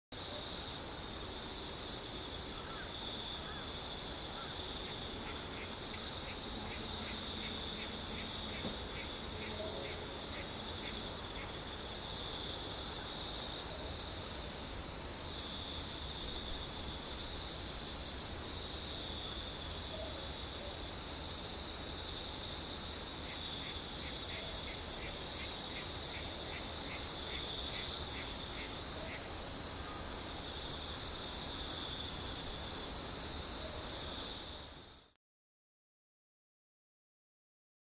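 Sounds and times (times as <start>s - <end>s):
high-pitched insect trill: 0.2s - 35.2s
insect chirping in pulses: 0.2s - 35.2s.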